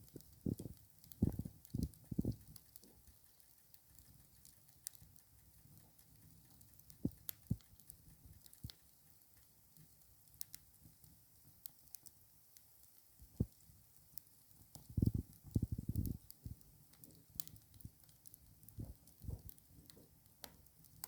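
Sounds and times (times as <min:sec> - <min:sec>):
sharp pops and ticks: 0:00.0 - 0:21.0
wood fire crackling: 0:00.0 - 0:21.0.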